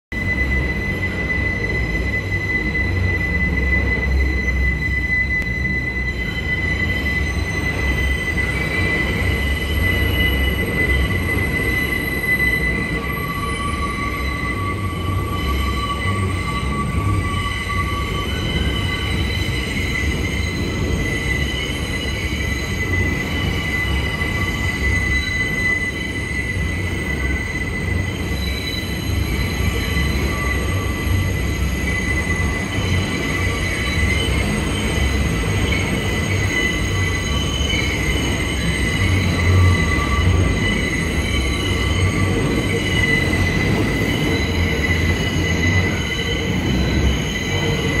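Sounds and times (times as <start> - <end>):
low rumble of train car: 0.1 - 48.0
train wheels squealing: 0.1 - 48.0.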